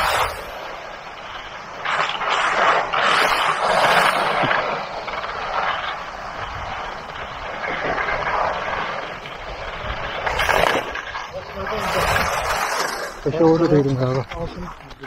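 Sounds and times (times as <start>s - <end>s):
skis scraping icy snow: 0.0s - 15.0s.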